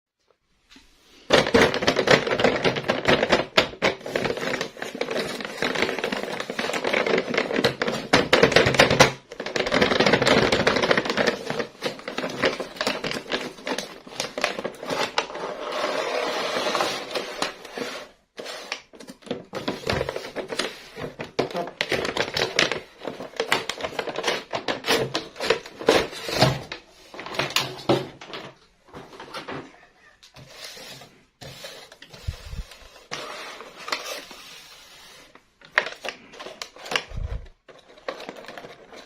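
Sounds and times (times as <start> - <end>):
plastic packaging crinkling: 1.3 - 28.5, 30.3 - 39.0.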